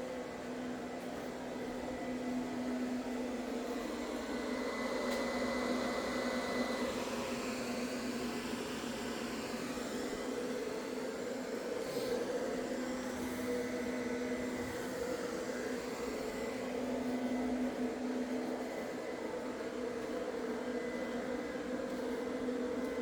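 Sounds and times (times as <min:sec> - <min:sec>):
mechanical hum with high whine: 0:00.0 - 0:23.0.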